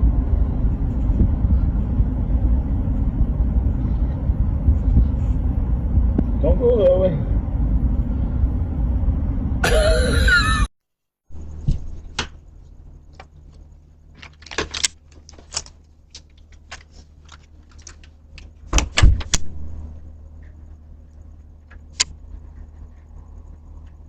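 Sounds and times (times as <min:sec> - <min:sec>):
steady low hum: 0:00.0 - 0:10.7, 0:11.3 - 0:24.0.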